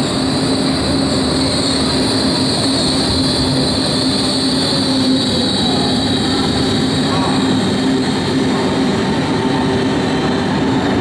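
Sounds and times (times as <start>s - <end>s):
electric train rushing: 0.0s - 11.0s.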